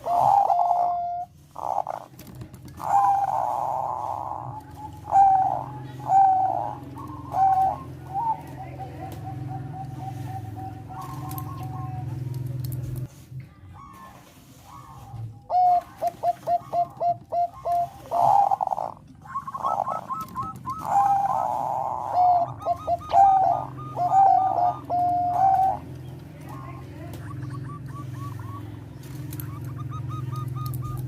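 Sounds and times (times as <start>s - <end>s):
dove cooing: 0.0s - 12.9s, 13.7s - 31.0s.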